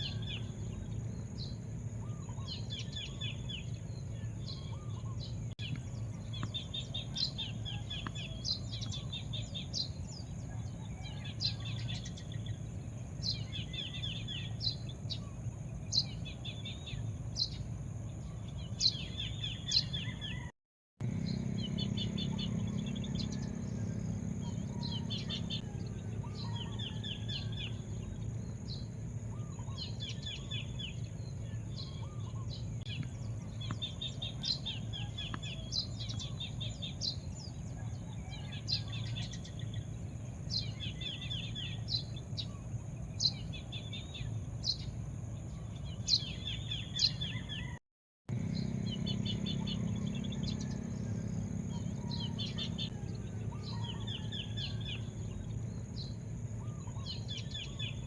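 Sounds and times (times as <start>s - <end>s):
low background rumble: 0.0s - 47.6s, 48.3s - 58.0s
birds chirping: 0.0s - 58.0s.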